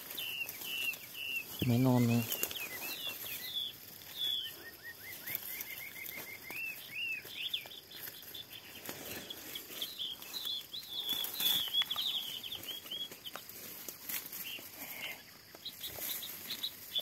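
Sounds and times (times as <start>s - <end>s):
dry grass and leaves rustling: 0.0s - 17.0s
songbird chirping and whistling: 0.0s - 17.0s.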